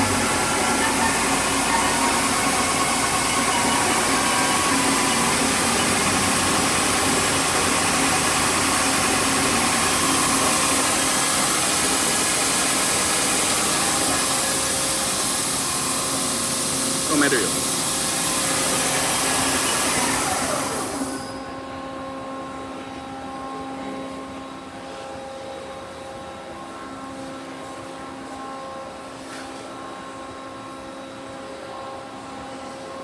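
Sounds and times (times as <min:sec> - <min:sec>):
lathe machine hum with whining tones: 0:00.0 - 0:32.9.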